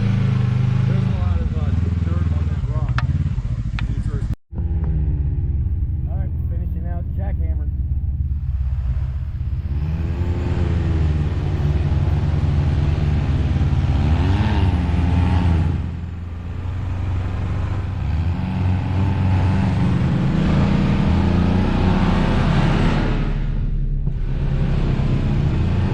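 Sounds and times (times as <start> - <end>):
utility vehicle engine revving: 0.0 - 25.9.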